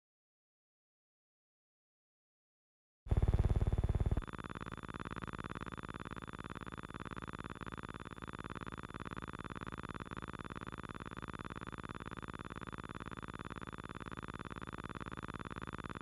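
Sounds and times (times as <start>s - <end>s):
pulsing buzz: 3.1s - 16.0s.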